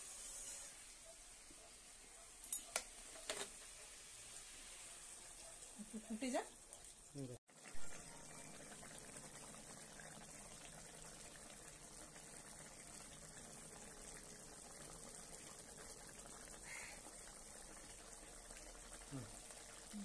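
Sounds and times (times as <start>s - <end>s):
curry bubbling: 3.0s - 20.0s.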